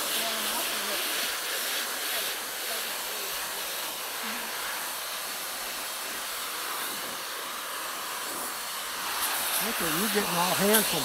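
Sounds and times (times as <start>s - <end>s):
pet dryer blowing air: 0.0s - 11.0s.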